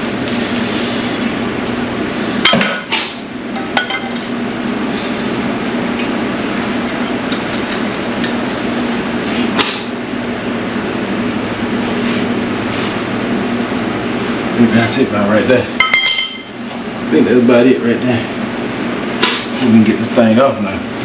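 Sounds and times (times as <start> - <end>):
loud background noise: 0.0 - 21.0.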